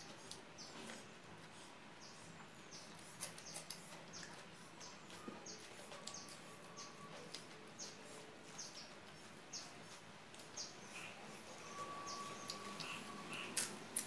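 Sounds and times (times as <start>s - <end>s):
small bird chirping: 1.6s - 14.0s.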